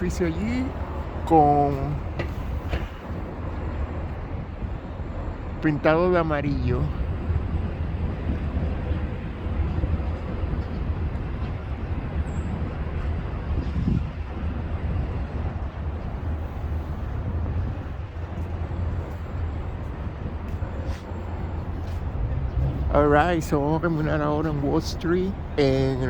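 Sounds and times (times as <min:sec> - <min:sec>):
rumble of passing vehicles: 0:00.0 - 0:26.0.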